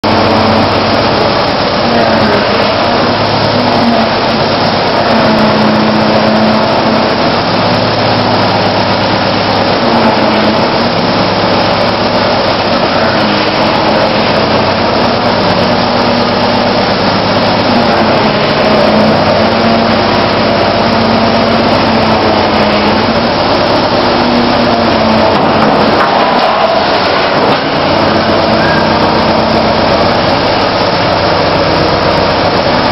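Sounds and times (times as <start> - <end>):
loader engine running: 0.0 - 32.9.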